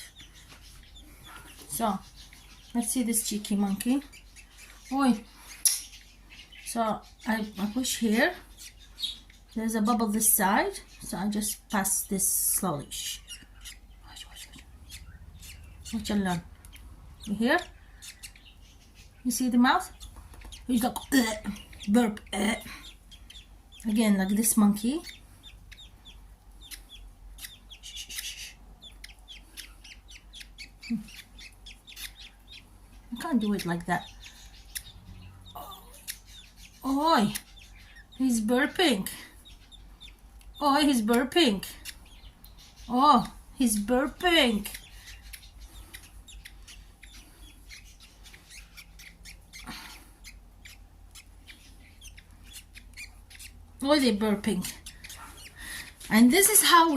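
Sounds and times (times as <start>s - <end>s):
baby budgerigars chirping: 0.0s - 56.9s.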